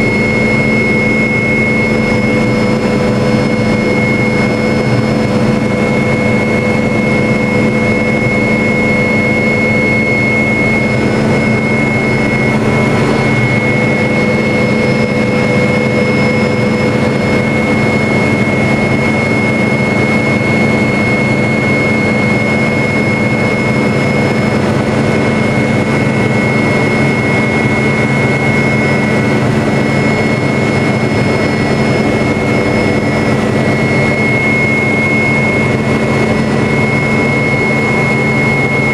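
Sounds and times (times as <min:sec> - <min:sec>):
helicopter engine whine: 0:00.0 - 0:38.9
rotor drone: 0:00.0 - 0:38.9.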